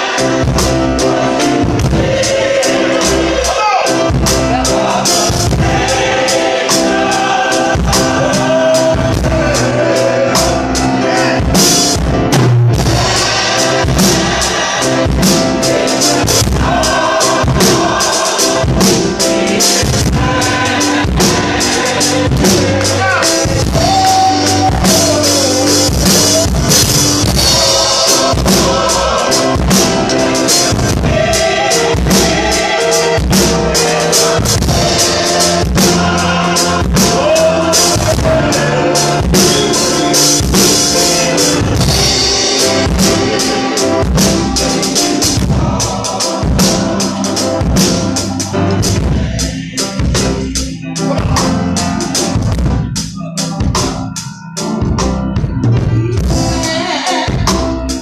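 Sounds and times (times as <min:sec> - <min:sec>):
drum kit beat: 0:00.0 - 0:58.0
gospel choir singing: 0:00.0 - 0:58.0
piano: 0:00.0 - 0:58.0.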